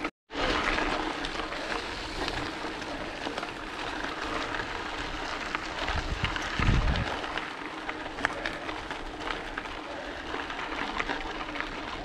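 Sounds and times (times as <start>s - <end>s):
bike tyres crunching on gravel: 0.0s - 12.0s.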